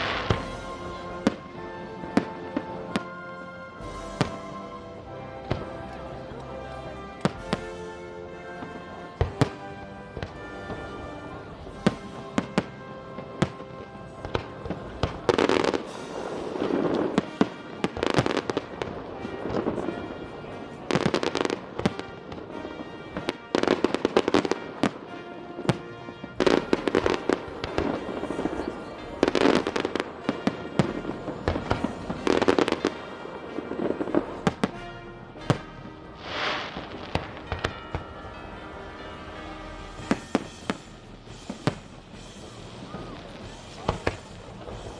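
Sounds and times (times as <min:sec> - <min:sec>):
fireworks bangs and crackling: 0:00.0 - 0:44.9
music playing: 0:00.0 - 0:44.9.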